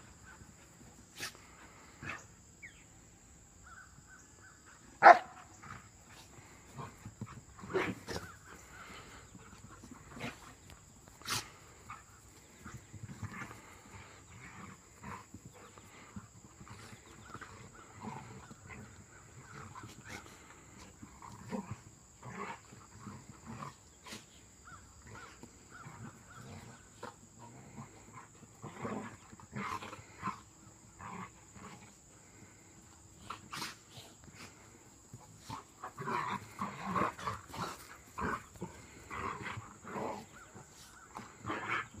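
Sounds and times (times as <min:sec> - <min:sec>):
dogs play growling and snarling: 0:00.0 - 0:03.0, 0:03.6 - 0:42.0.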